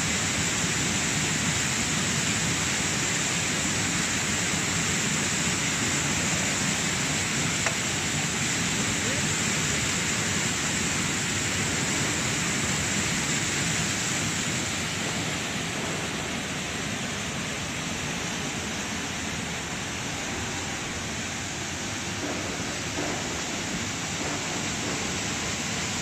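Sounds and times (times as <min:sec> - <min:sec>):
bubbling churning water machine: 0:00.0 - 0:26.0.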